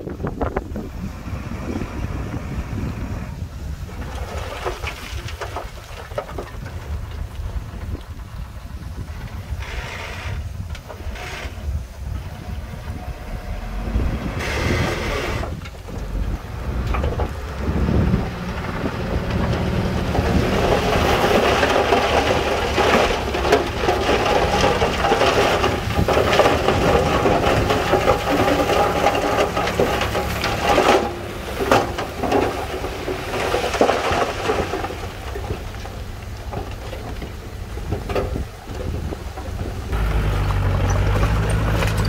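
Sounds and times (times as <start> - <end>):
bulldozer diesel engine: 0.0 - 42.0
rock crunching and grinding: 3.7 - 42.0.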